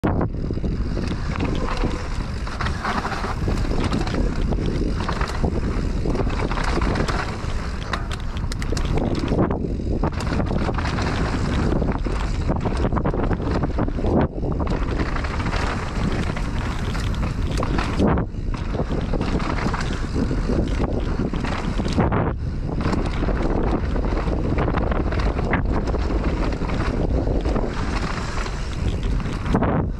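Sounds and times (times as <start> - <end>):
bike clicking and rattling: 0.0 - 29.9
wind buffeting on microphone: 0.0 - 29.9
tyre noise on dirt: 0.1 - 29.9.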